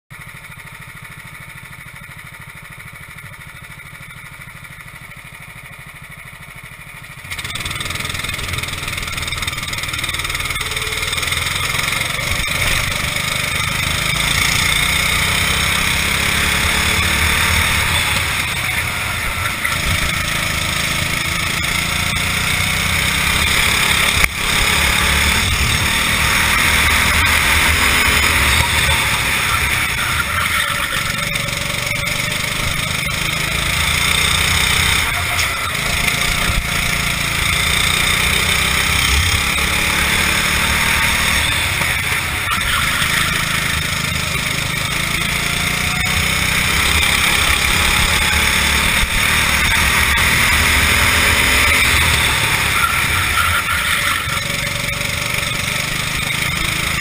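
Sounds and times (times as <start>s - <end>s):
kart engine revving: 0.2s - 57.0s.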